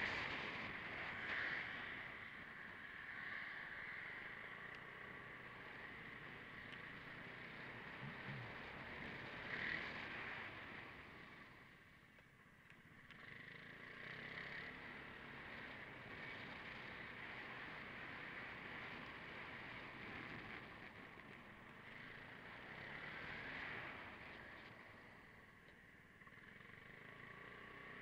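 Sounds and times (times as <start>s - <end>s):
wind and road noise: 0.0s - 28.0s
muffled scooter engine: 4.6s - 28.0s.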